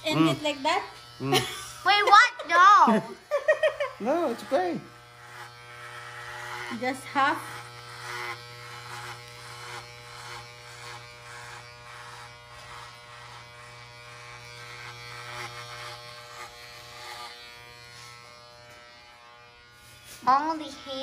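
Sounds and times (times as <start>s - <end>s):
electric shaver buzzing: 0.0s - 21.0s.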